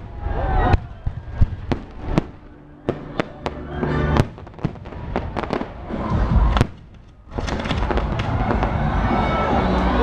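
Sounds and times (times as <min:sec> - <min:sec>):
fireworks bangs: 0:00.0 - 0:09.4
fireworks crackling: 0:00.0 - 0:09.4.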